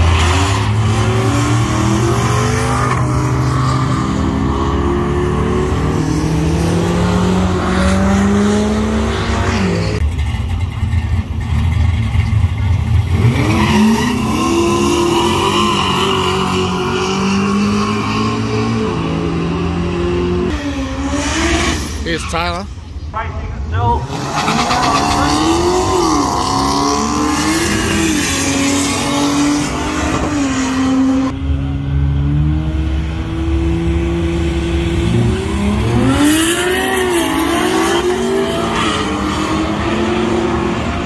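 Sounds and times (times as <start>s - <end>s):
racing engines revving hard: 0.0s - 10.0s, 13.0s - 22.7s, 24.0s - 31.4s, 32.1s - 41.0s.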